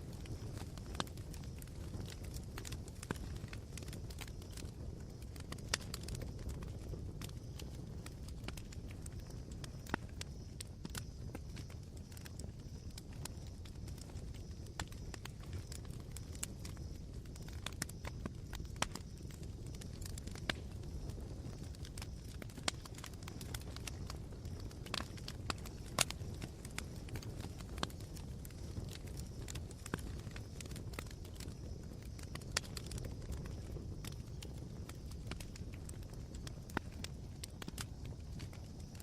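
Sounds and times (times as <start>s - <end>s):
campfire embers crackling and popping: 0.0s - 39.0s.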